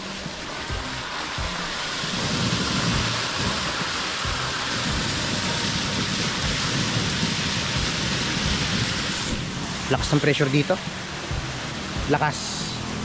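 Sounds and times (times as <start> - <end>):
water gushing under pressure: 0.0 - 13.0.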